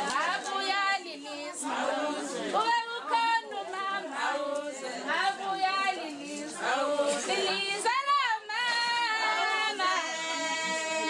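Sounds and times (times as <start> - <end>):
women singing without instruments: 0.0 - 11.0.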